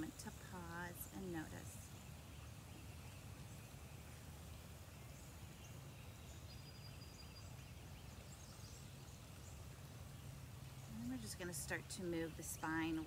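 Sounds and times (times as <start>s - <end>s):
distant bird calls: 0.0s - 13.0s
low woodland hush: 0.0s - 13.0s.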